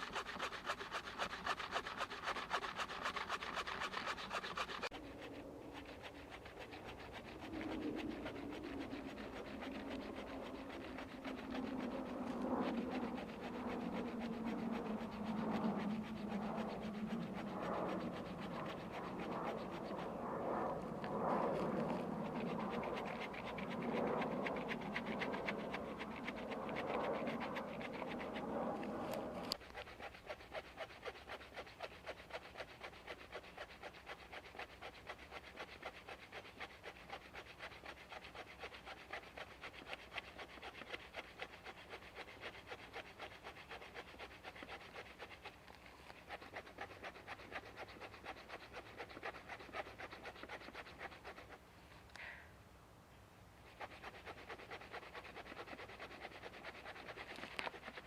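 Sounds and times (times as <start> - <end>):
hand saw cutting a log: 0.0 - 51.7, 53.6 - 58.0.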